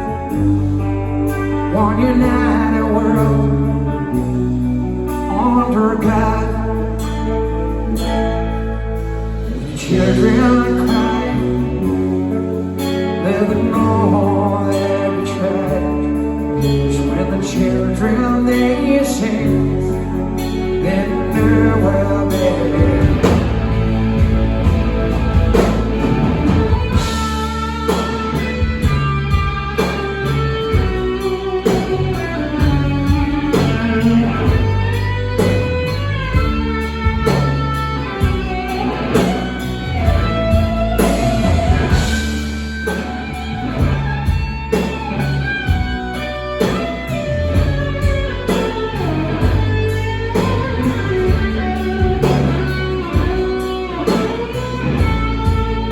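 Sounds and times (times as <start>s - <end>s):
bass and drums: 0.0s - 55.9s
electric guitar lead melody: 0.0s - 55.9s.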